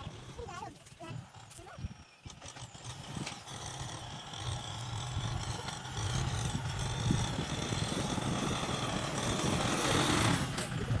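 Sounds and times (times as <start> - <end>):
heavy vehicle engine rumble: 0.0 - 11.0.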